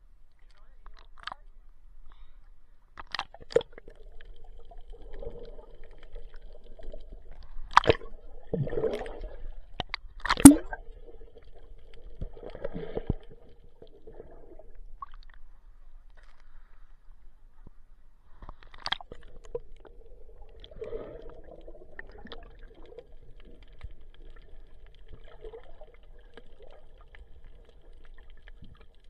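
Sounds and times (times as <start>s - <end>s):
low underwater hum: 0.0s - 29.0s
underwater gurgling and sloshing: 0.0s - 29.0s.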